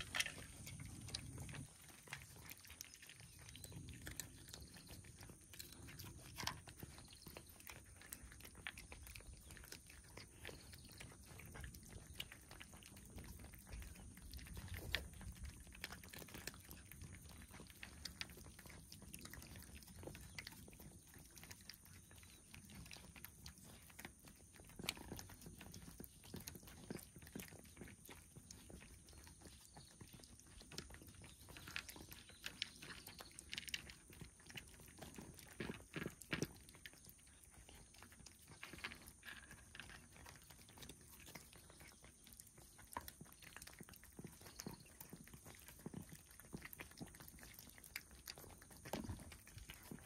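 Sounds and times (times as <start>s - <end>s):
cats crunching food: 0.0s - 50.0s.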